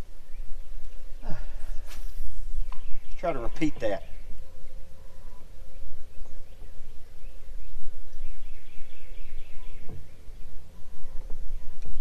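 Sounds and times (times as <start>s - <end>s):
bird chirping: 0.0s - 12.0s
wind buffeting microphone: 0.0s - 12.0s.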